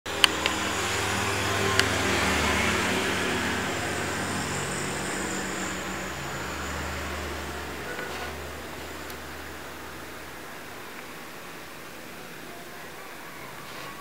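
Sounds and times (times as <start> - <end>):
low hum and hiss: 0.1 - 13.9.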